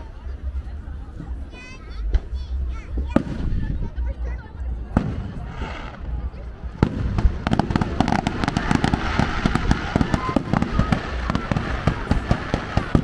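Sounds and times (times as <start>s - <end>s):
fireworks crackling and banging: 0.6s - 13.0s.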